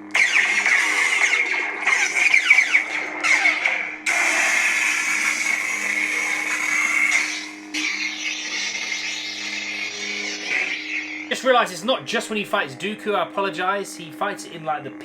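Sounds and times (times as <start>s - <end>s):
harsh loud buzz: 0.0s - 15.0s
lightsaber electric hum: 0.0s - 15.0s.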